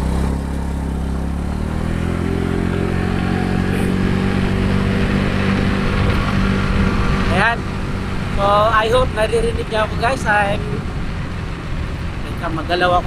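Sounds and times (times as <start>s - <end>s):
road noise rushing: 0.0s - 13.0s
vehicle engine accelerating: 0.0s - 13.0s.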